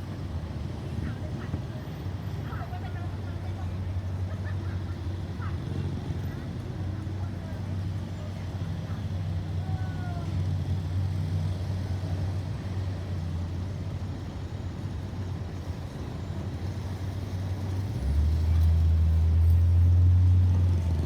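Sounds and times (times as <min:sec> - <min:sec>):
traffic engines humming: 0:00.0 - 0:21.0.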